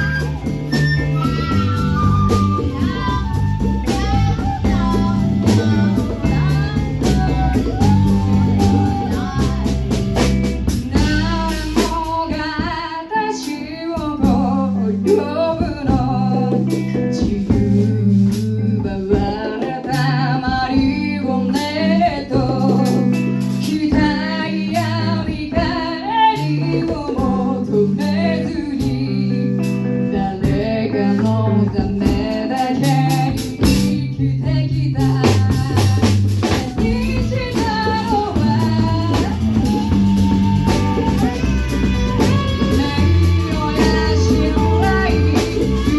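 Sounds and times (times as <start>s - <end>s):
bass: 0.0s - 45.9s
drums: 0.0s - 45.9s
guitar: 0.0s - 45.9s
person singing: 0.0s - 45.9s.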